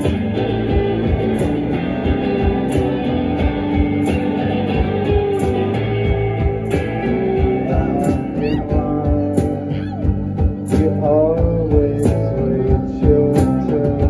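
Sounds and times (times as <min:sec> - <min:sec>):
rock band playing loudly: 0:00.0 - 0:14.0.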